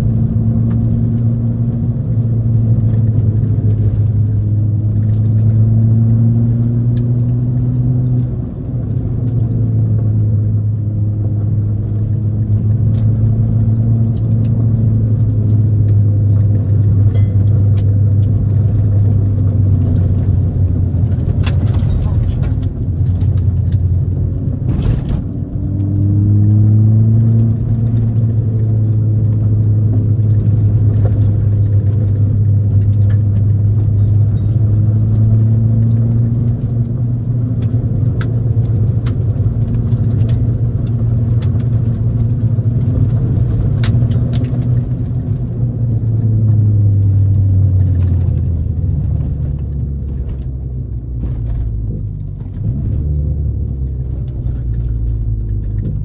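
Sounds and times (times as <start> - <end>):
car engine droning: 0.0 - 56.0
road noise: 0.0 - 56.0.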